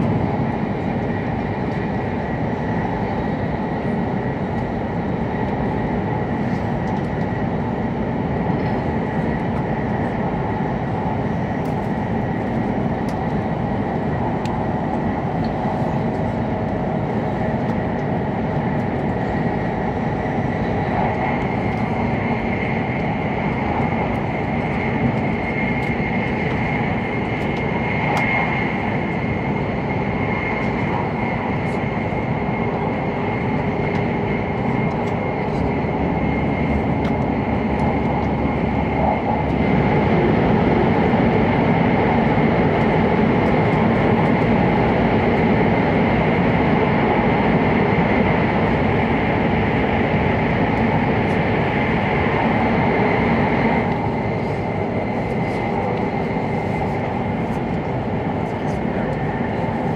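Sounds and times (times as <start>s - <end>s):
train running at speed: 0.0s - 59.9s.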